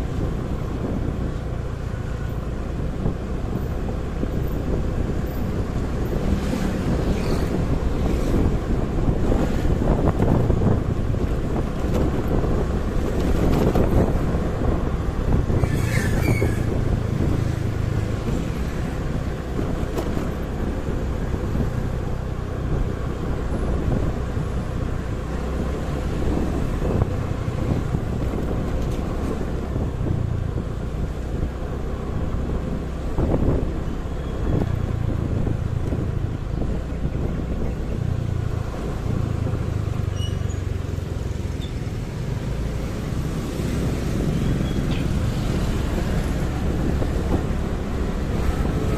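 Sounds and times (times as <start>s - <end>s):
motorcycle engine rumble: 0.0s - 48.9s
road traffic: 0.0s - 48.9s
wind buffeting microphone: 0.0s - 48.9s.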